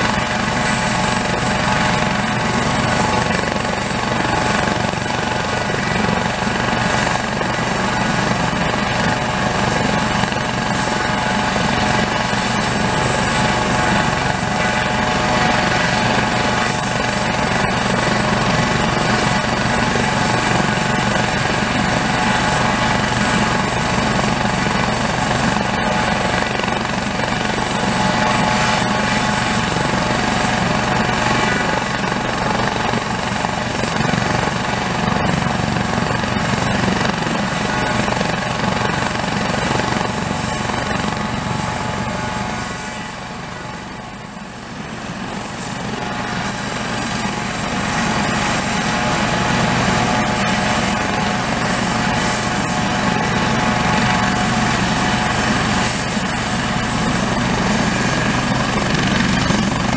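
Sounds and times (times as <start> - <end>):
helicopter turbine and rotors: 0.0 - 59.9.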